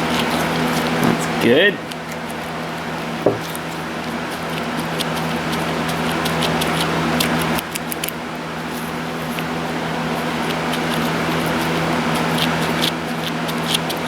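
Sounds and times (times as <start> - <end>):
sticky clicks and squelches of grease: 0.0 - 1.0, 1.8 - 14.0
fan humming: 0.0 - 14.0.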